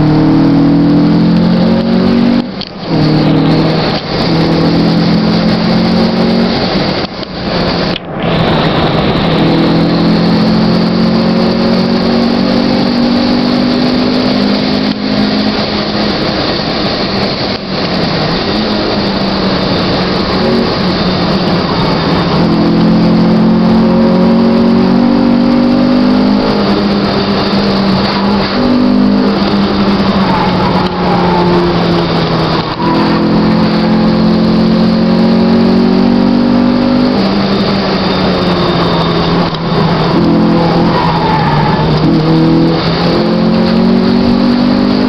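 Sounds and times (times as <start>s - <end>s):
car engine accelerating: 0.0s - 45.0s
road and wind noise: 0.0s - 45.0s.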